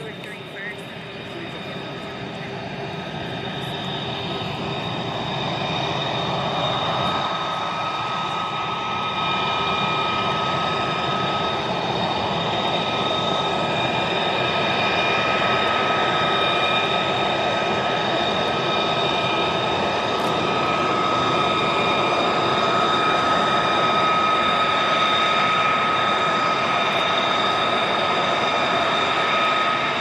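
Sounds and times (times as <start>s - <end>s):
jet engines with turbine whine: 0.0s - 30.0s.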